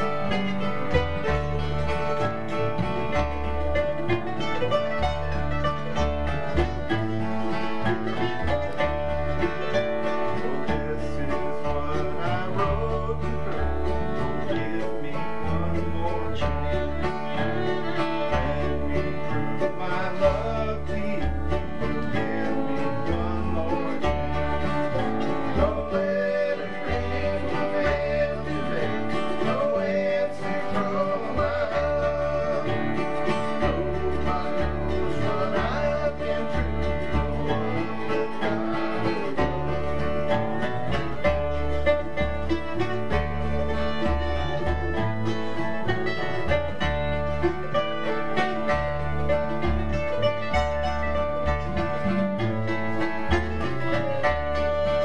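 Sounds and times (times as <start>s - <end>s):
string band playing a tune: 0.0s - 55.0s
upright bass plucking: 0.0s - 55.0s.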